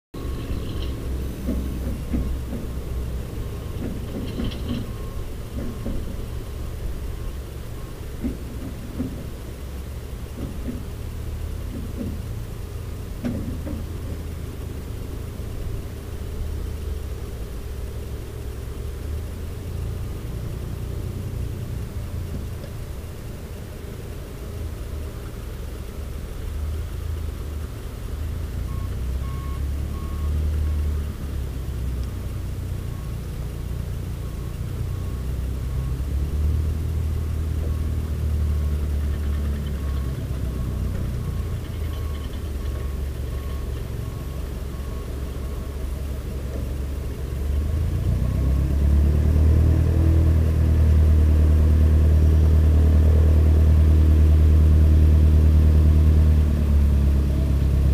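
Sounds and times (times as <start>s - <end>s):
piston aircraft engine humming: 0.2s - 29.8s, 31.0s - 48.3s.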